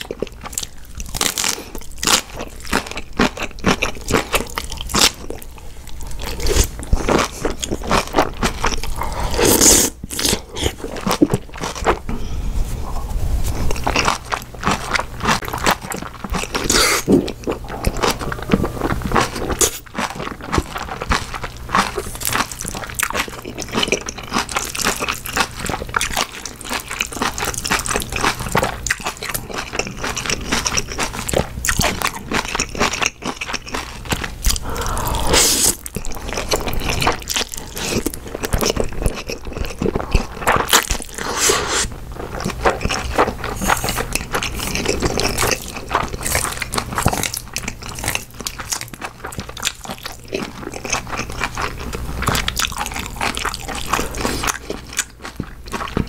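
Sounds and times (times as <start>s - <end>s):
crunching and chewing food: 0.0s - 12.1s, 12.8s - 56.0s.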